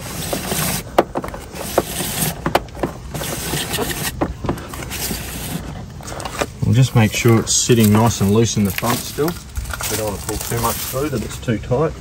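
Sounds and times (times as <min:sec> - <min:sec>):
cable scraping against plastic: 0:00.0 - 0:11.4.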